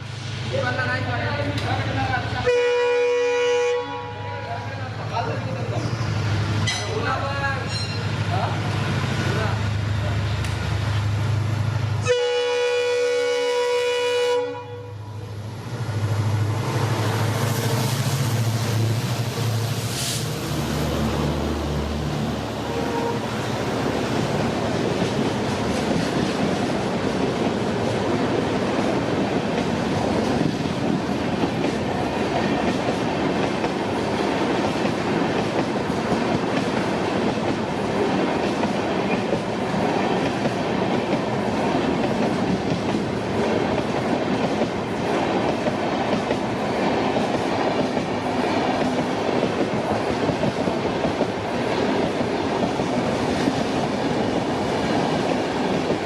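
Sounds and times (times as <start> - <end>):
train wheels on rails: 0.0 - 2.5, 4.9 - 14.1, 15.1 - 56.0.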